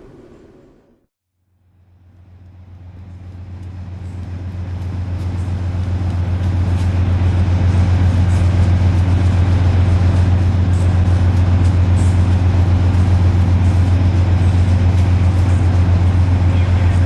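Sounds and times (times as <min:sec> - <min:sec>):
train running: 0:01.8 - 0:17.0.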